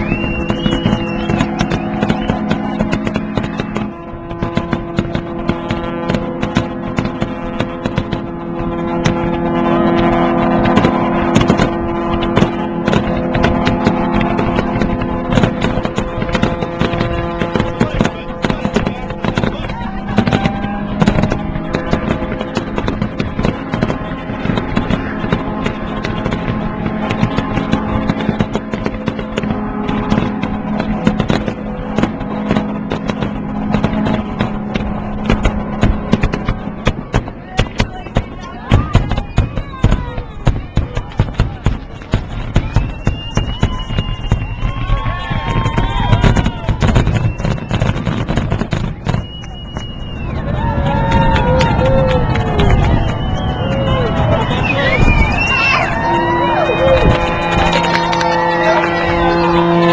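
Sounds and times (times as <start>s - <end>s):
long steady horn tone: 0.0s - 38.9s, 39.5s - 59.9s
fireworks bangs and crackles: 0.0s - 59.9s.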